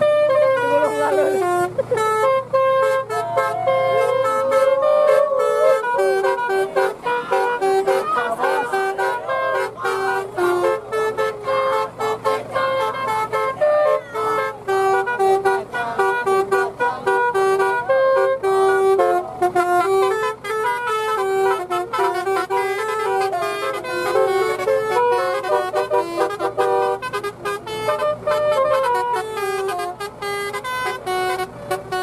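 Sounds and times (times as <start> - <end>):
horn playing quick melody: 0.0 - 32.0.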